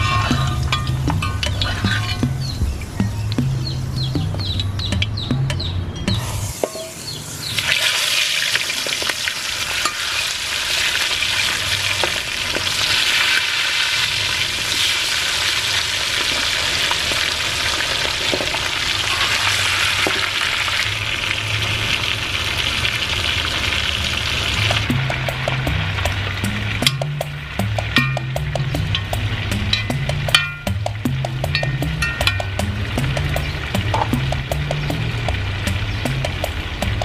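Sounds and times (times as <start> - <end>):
chicken sizzling in oil: 0.0 - 3.0, 6.2 - 37.0.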